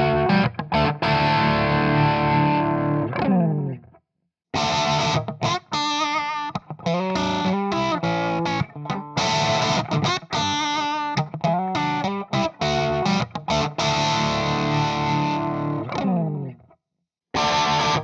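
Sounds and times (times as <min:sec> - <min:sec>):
distorted electric guitar chords: 0:00.0 - 0:03.8, 0:04.6 - 0:16.5, 0:17.4 - 0:18.0.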